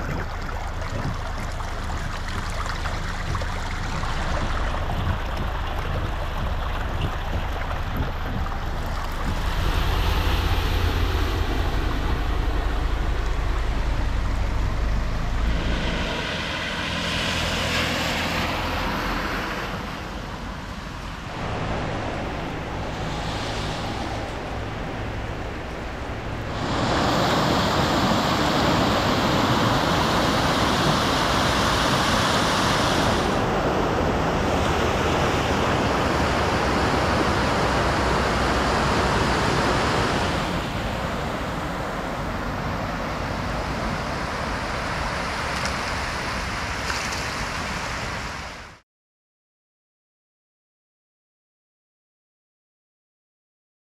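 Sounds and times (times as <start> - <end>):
runoff water flowing: 0.0 - 48.5
floodwater rushing over a wall: 0.0 - 48.8.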